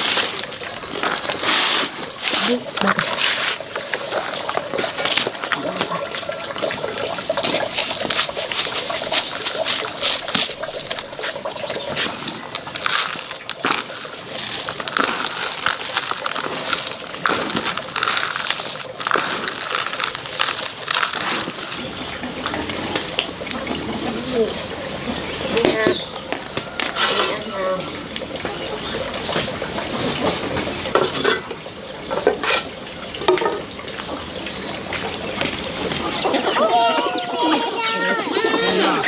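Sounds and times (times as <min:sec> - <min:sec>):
water splashing and sloshing: 0:00.0 - 0:39.0.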